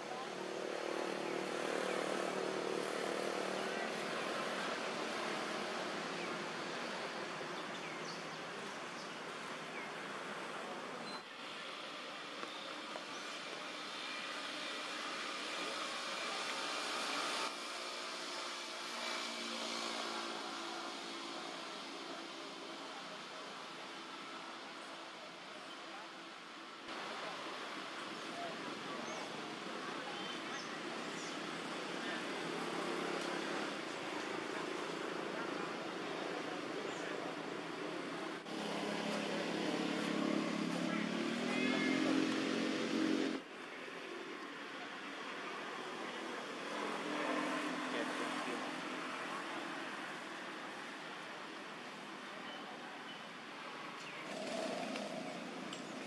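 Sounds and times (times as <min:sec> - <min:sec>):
outdoor ambient noise: 0:00.0 - 0:56.0.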